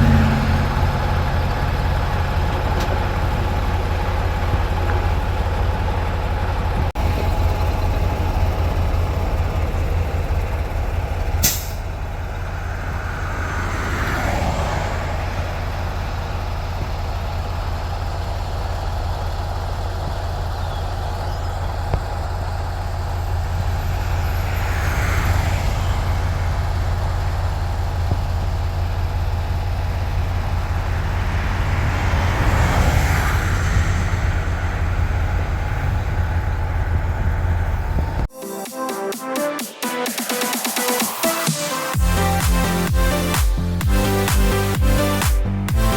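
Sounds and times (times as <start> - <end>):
truck engine and road drone: 0.0 - 45.9.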